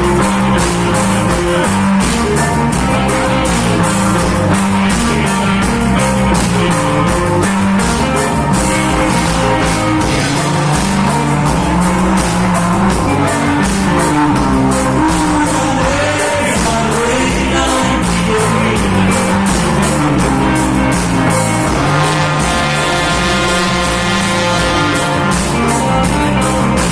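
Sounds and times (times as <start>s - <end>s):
reggae band music: 0.0s - 26.9s.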